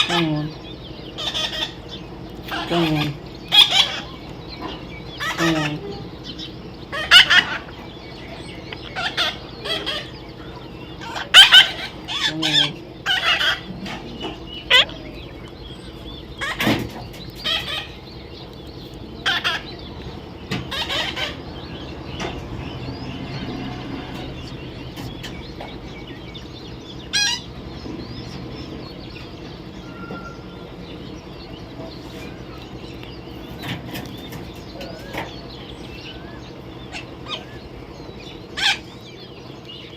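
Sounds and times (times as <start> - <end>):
parrots squawking: 0.0 - 27.8, 28.6 - 39.3.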